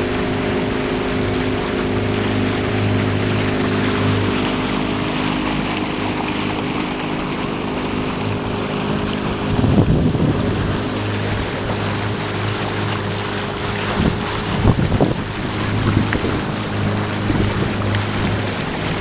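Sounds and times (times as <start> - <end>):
motorboat engine hum: 0.0 - 19.0
rush of wind and water: 0.0 - 19.0.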